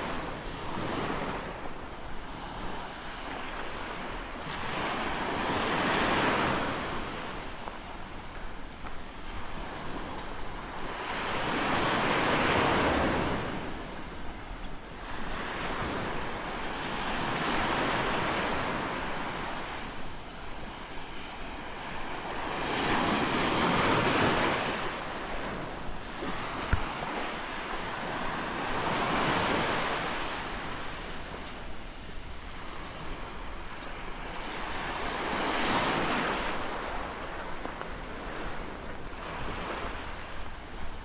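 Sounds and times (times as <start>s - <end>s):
small waves breaking on sand: 0.0s - 41.0s
wind buffeting microphone: 0.0s - 41.0s.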